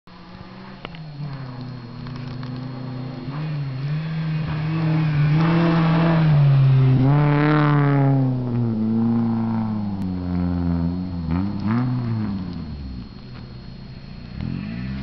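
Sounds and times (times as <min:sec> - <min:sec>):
car engine revving hard: 0:00.3 - 0:13.1, 0:14.1 - 0:15.0.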